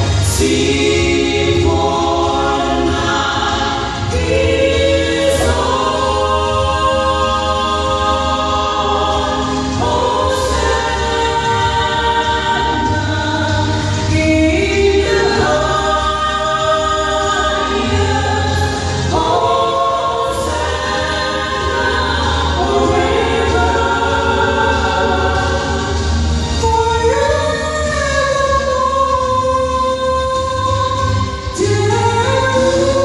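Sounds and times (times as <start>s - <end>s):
low accompaniment: 0.0s - 33.0s
vocal trio singing gospel: 0.0s - 33.0s.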